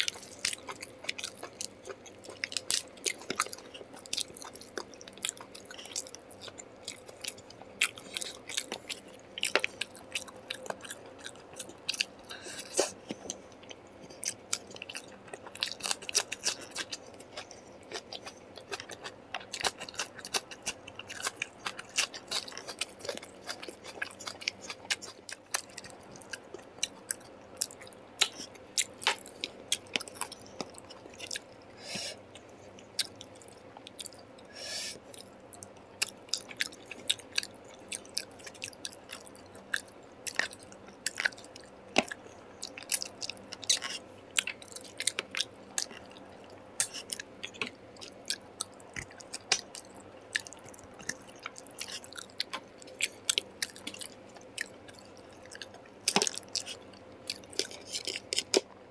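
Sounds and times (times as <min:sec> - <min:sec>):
person chewing food: 0:00.0 - 0:58.8.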